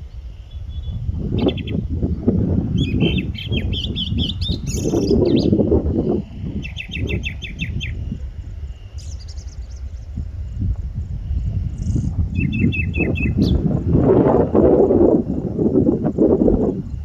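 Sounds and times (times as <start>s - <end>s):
birds chirping: 0.0s - 14.5s
wind buffeting microphone: 0.0s - 17.0s.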